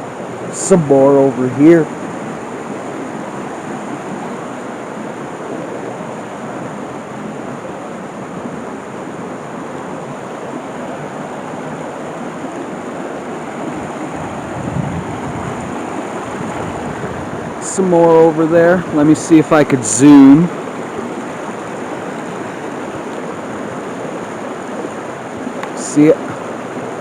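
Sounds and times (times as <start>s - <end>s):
stream and waterfall rushing: 0.0s - 27.0s.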